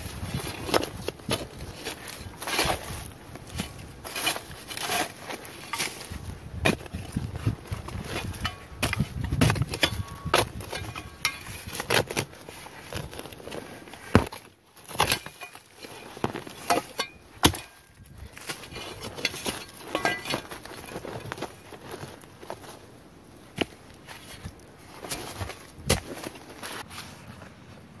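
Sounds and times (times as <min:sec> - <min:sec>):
shovel chopping and scraping soil: 0:00.0 - 0:27.4
hand raking out dirt: 0:00.0 - 0:27.9.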